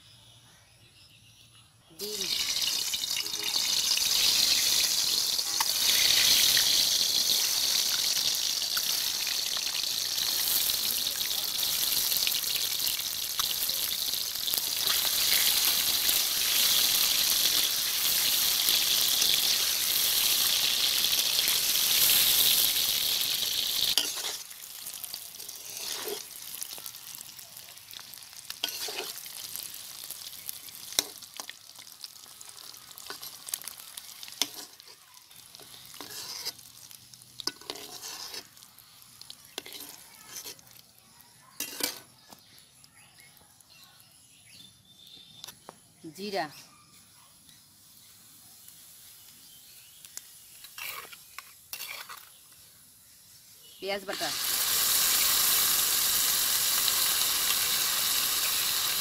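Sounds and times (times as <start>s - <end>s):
eggs sizzling in hot oil: 2.0s - 46.6s, 47.4s - 59.0s.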